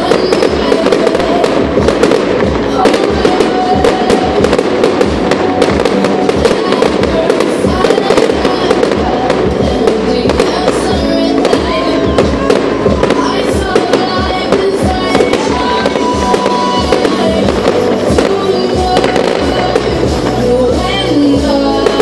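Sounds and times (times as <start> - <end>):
fireworks bangs and crackles: 0.0 - 22.0
loud music playing: 0.0 - 22.0.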